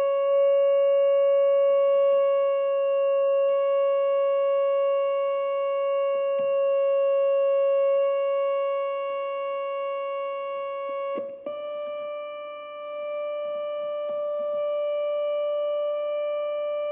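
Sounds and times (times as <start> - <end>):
electronic organ holding a note: 0.0 - 16.9.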